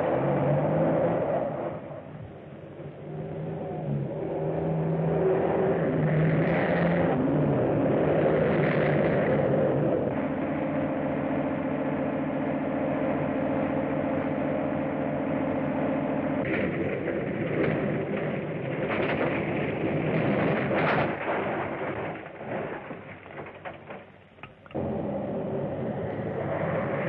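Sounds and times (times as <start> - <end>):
vehicle engine revving: 0.0 - 23.4, 24.7 - 27.0.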